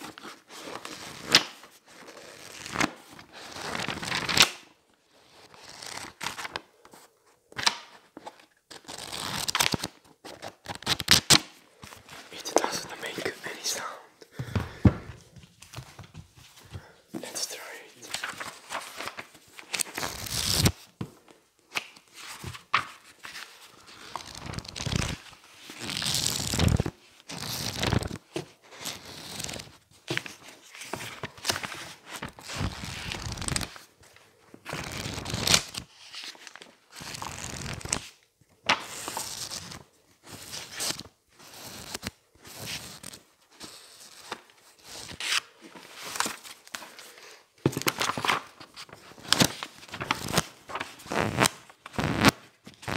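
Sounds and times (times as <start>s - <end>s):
pages being flipped: 0.0s - 4.7s, 5.4s - 13.8s, 15.2s - 52.9s.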